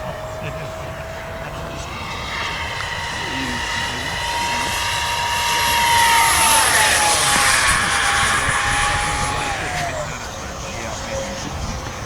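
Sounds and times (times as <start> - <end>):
model jet ducted-fan whine: 0.0 - 12.0.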